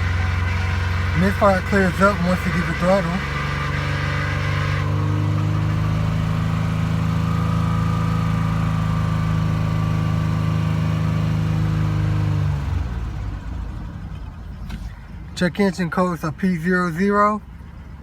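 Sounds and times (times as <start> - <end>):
car engine at raised speed: 0.0 - 18.0.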